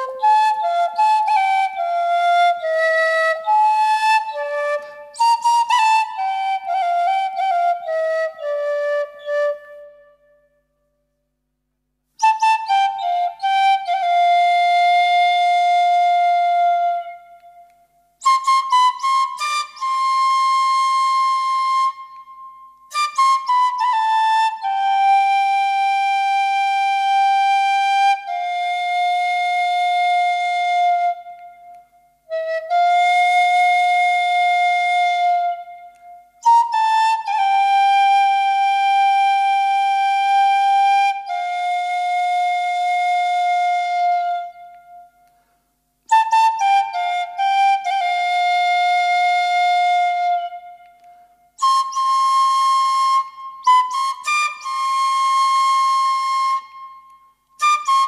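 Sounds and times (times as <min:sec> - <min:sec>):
bamboo flute folk melody: 0:00.0 - 0:11.1, 0:12.1 - 0:58.0.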